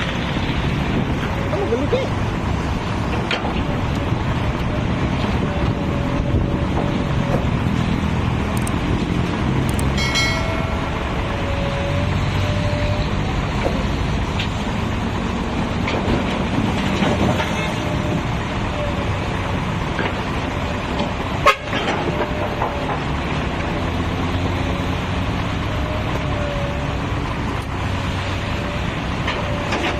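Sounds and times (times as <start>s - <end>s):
backhoe diesel engine running: 0.0s - 29.9s.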